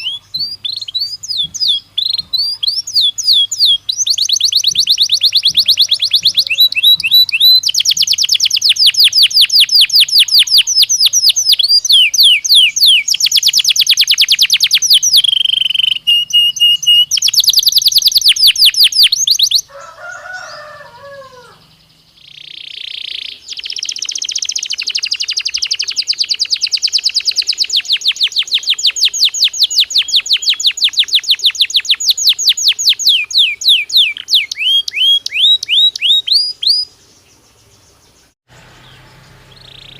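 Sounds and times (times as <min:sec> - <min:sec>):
canary singing in fast trills: 0:00.0 - 0:39.9.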